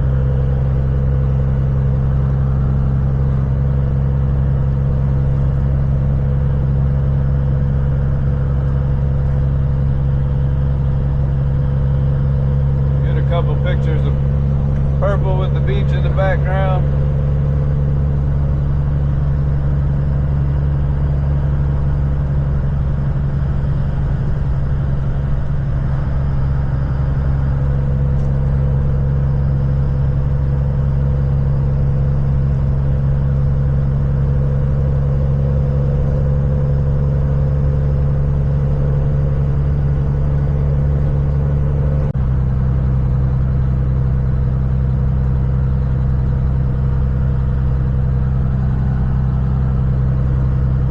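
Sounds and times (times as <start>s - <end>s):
truck diesel engine droning: 0.0s - 50.9s.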